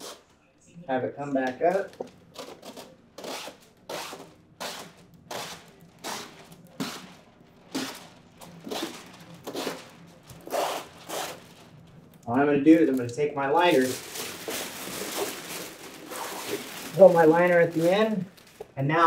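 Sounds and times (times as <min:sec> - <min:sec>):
plastic film rustling and crinkling: 0:01.4 - 0:19.0.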